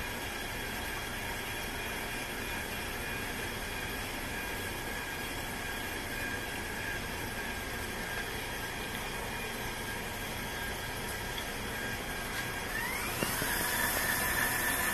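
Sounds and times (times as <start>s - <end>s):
stand mixer motor whining: 0.1s - 14.9s.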